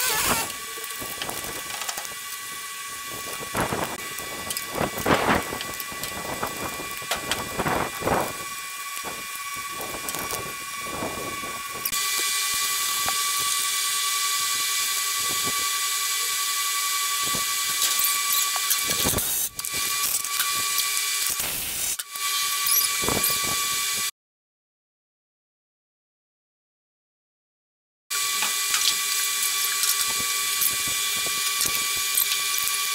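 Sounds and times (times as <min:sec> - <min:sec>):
cordless drill whining: 0:00.0 - 0:24.1, 0:28.1 - 0:32.9.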